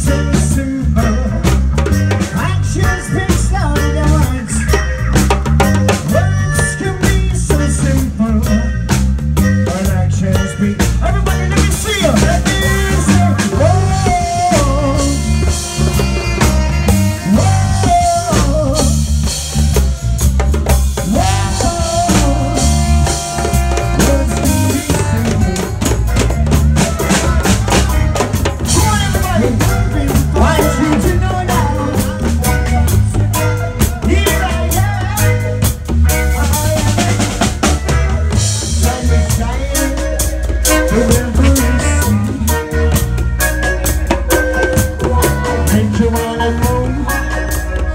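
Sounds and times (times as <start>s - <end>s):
reggae band playing: 0.0s - 47.9s
saxophone and trombone melody: 0.0s - 47.9s.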